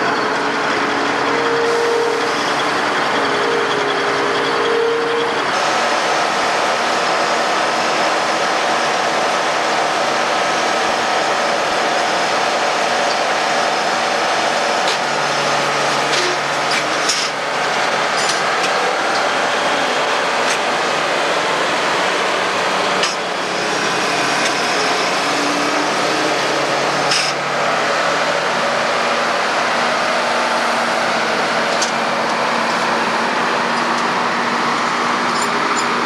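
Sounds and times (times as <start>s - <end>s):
heavy machinery running: 0.0s - 36.0s.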